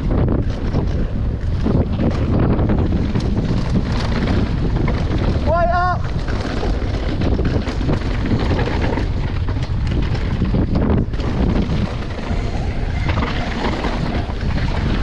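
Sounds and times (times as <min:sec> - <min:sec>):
bike rattling over rocky trail: 0:00.0 - 0:15.0
wind rushing over microphone: 0:00.0 - 0:15.0.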